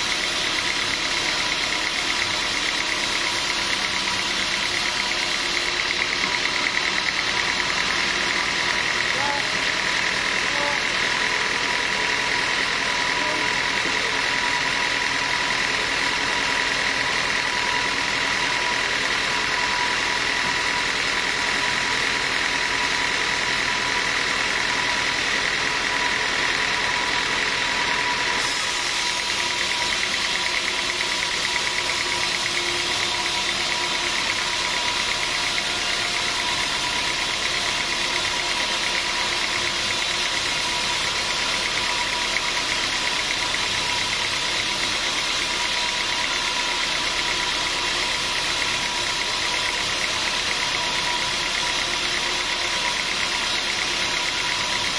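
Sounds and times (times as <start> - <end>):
sawmill machinery drone: 0.0 - 54.9.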